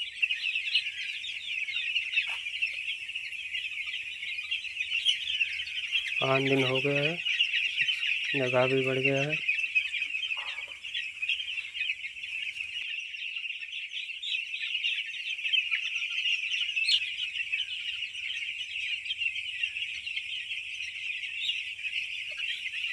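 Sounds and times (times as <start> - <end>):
chicks peeping: 0.0 - 22.9.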